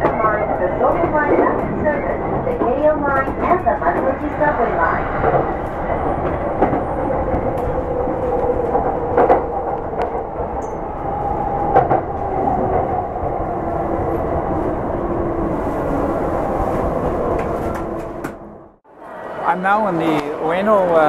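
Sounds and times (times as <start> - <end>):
train wheels rumbling on rail: 0.0 - 18.5
train hum: 0.0 - 21.0.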